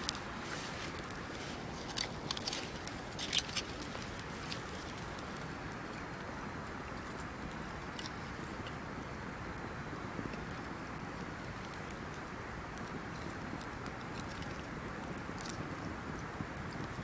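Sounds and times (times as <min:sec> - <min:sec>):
bonfire crackling and hissing: 0:00.0 - 0:17.0.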